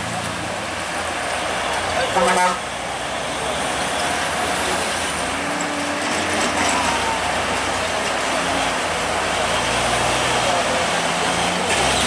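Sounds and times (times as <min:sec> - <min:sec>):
diesel truck engines running: 0:00.0 - 0:12.0
road noise: 0:00.0 - 0:12.0.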